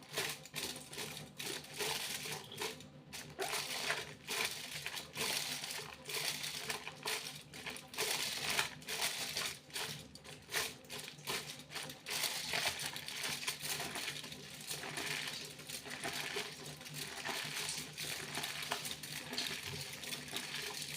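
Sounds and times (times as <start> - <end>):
foil crinkling: 0.0 - 20.9.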